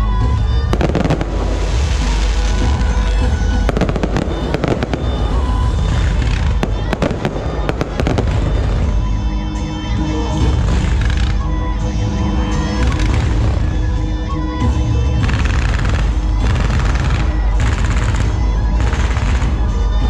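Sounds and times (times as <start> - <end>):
fireworks bursting with bangs and crackling: 0.0 - 20.0.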